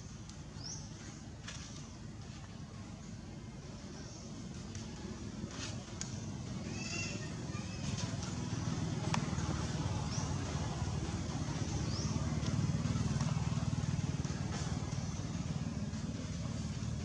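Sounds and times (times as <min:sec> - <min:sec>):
vehicle engine running: 0:03.2 - 0:17.0.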